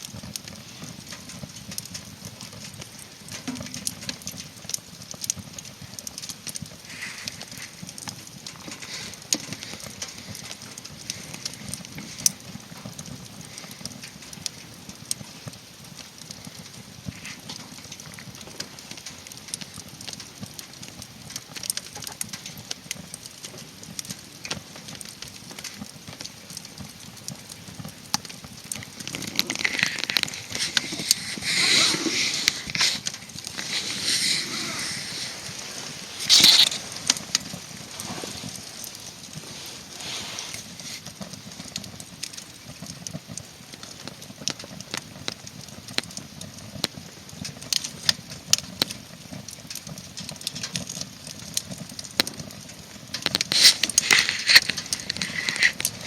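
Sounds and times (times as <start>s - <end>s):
firewood crackling: 0.0s - 56.0s
sharp snaps and pops: 0.0s - 56.0s.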